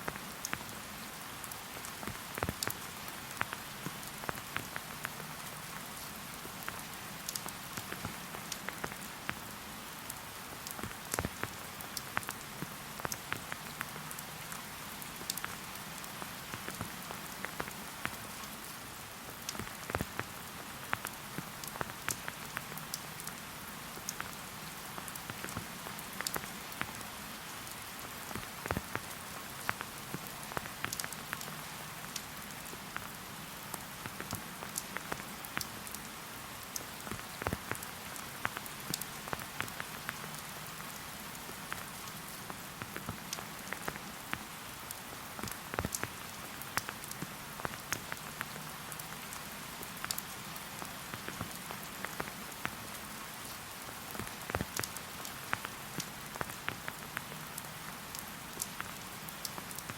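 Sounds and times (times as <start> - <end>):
light rain hiss: 0.0 - 59.9
raindrops ticking on leaves: 0.0 - 59.9.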